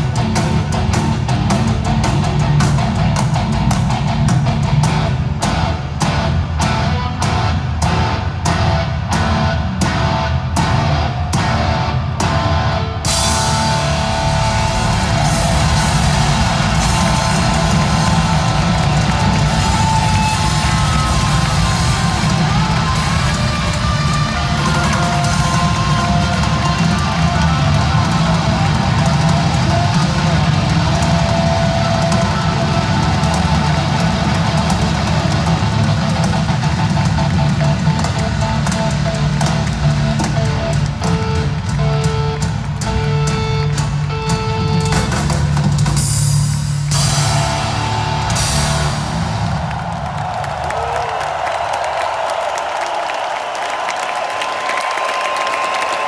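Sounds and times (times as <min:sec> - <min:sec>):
drum hits: 0:00.0 - 0:51.7
metal band playing live: 0:00.0 - 0:52.9.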